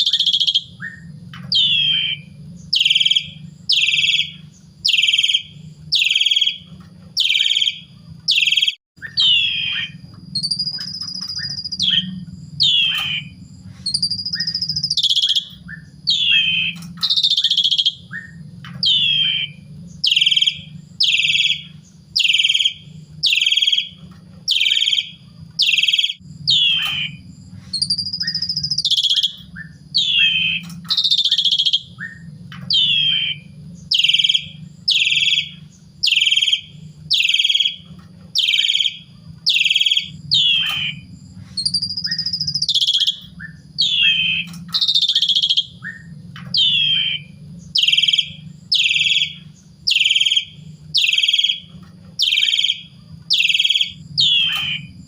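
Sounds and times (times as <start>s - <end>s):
low steady hum: 0.0s - 8.4s, 9.0s - 55.0s
starling falling calls: 0.0s - 27.2s, 27.8s - 55.0s
bird high whistles: 0.0s - 55.0s.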